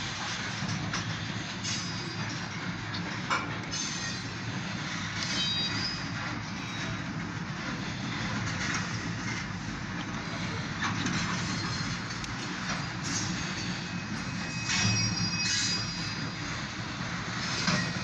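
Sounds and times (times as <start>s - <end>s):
train wheels rumbling on rails: 0.0s - 18.0s
faint high wheel squeal: 1.1s - 2.9s, 3.7s - 9.1s, 10.3s - 18.0s.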